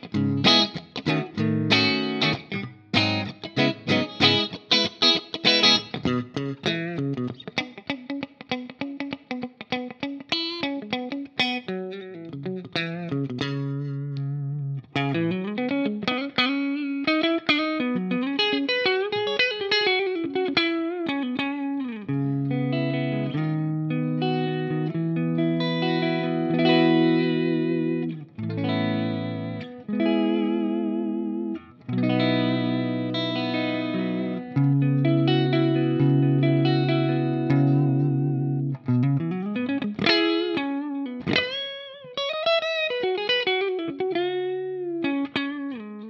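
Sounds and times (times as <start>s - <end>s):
electric guitar chords: 0.0s - 46.0s
electric guitar lead lines: 0.0s - 46.0s.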